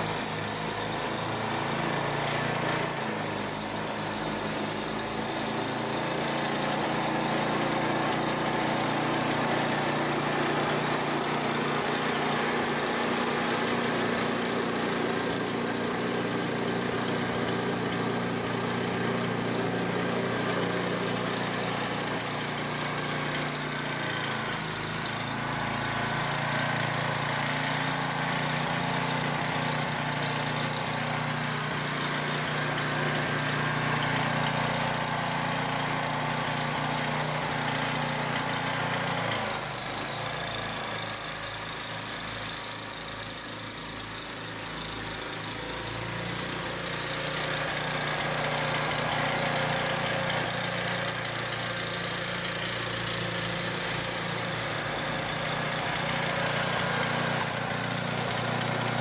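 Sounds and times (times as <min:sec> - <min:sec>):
snowblower engine running: 0:00.0 - 0:59.0.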